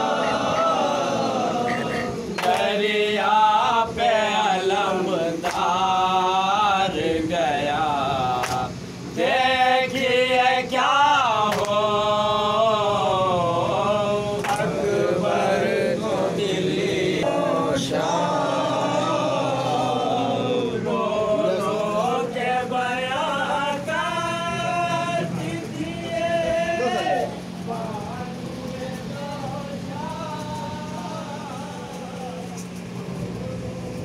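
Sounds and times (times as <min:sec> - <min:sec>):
man reciting: 0:00.0 - 0:34.0
men singing in unison: 0:00.0 - 0:34.0.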